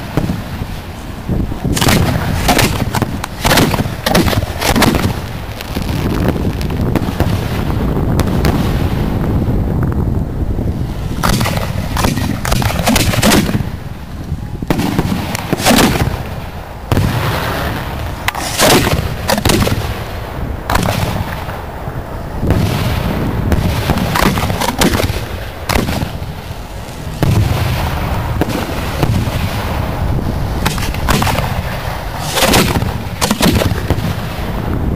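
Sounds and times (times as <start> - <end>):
firework launches and bursts: 0.0 - 10.0, 10.6 - 21.7, 22.4 - 34.9
steady low rumble: 0.0 - 34.9.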